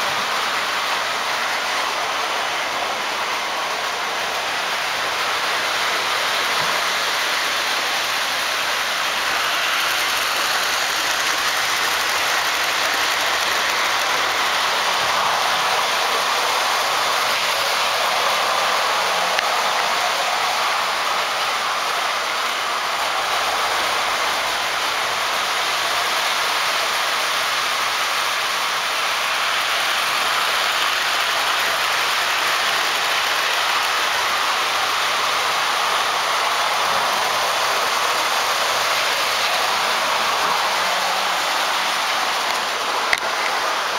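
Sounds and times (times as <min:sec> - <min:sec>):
toy trains running on track: 0:00.0 - 0:43.9.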